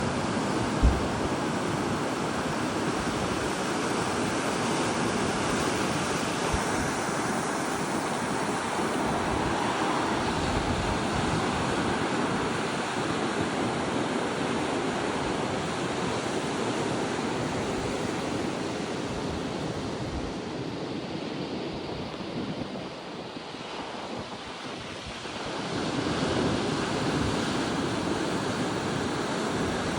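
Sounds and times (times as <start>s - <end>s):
ocean surf: 0.0s - 29.9s
strong wind: 0.0s - 29.9s
wind buffeting microphone: 0.0s - 29.9s.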